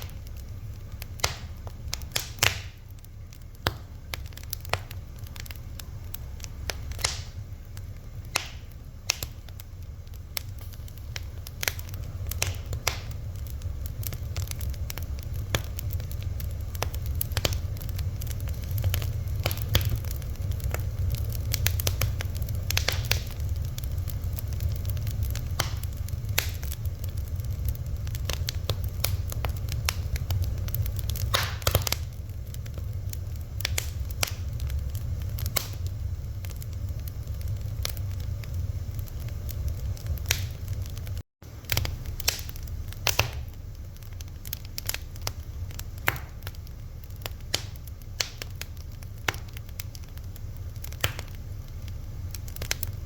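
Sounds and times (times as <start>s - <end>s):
fire crackling and popping: 0.0s - 53.0s.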